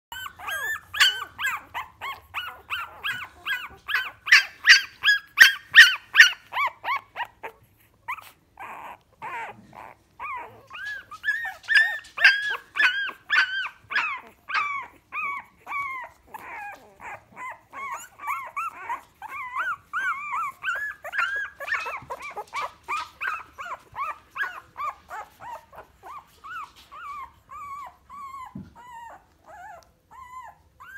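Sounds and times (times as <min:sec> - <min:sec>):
puppies whining and squeaking: 0:00.1 - 0:30.9.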